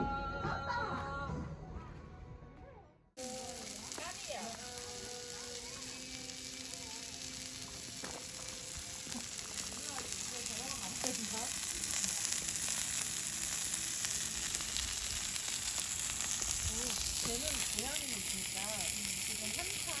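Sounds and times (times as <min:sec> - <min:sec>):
fire crackling: 0:03.2 - 0:20.0
food sizzling on griddle: 0:03.2 - 0:20.0.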